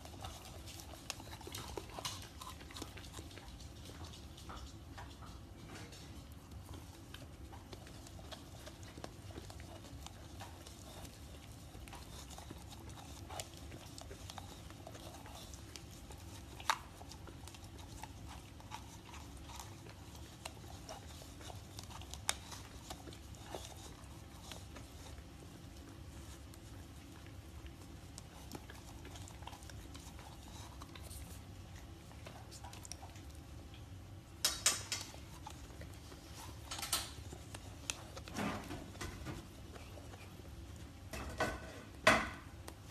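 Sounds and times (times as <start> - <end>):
dog licking and smacking: 0.0 - 42.9.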